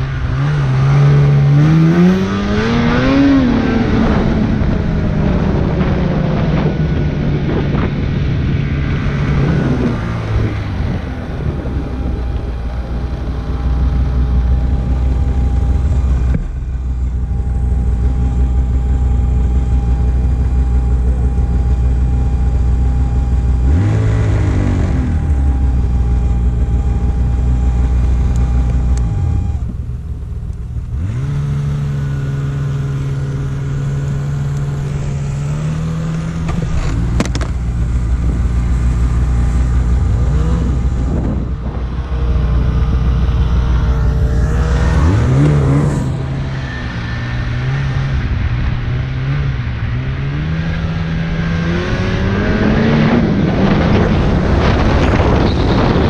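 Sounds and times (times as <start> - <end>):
snowmobile engine revving: 0.0 - 56.0
steady whine: 0.0 - 56.0.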